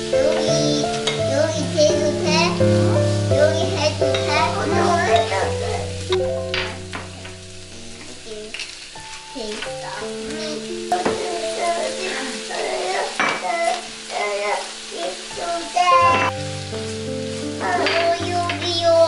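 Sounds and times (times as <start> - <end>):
background music melody: 0.0 - 19.0
shrimp and onion sizzling in pan: 0.0 - 19.0.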